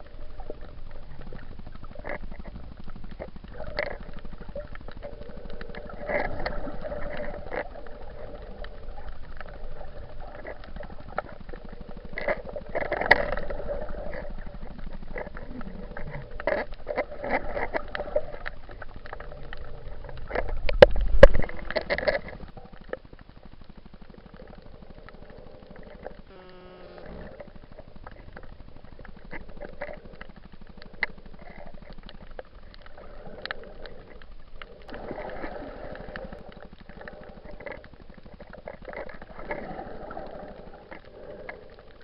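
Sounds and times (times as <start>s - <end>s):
muffled water sloshing and gurgling: 0.0s - 26.4s, 27.0s - 42.0s.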